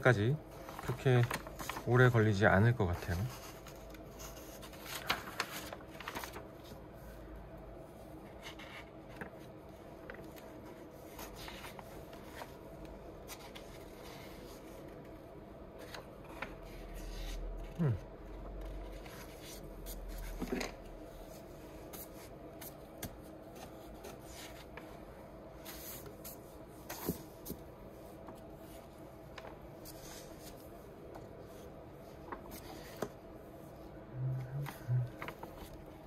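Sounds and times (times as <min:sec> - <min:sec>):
faint steady hum: 0:00.0 - 0:36.0
book pages turning: 0:00.5 - 0:02.3, 0:03.0 - 0:06.8, 0:08.3 - 0:15.1, 0:15.8 - 0:33.3, 0:34.3 - 0:36.0.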